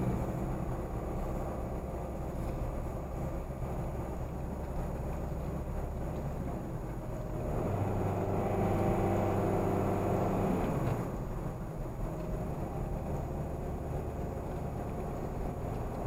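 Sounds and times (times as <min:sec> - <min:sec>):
car cabin road noise: 0:00.0 - 0:16.0.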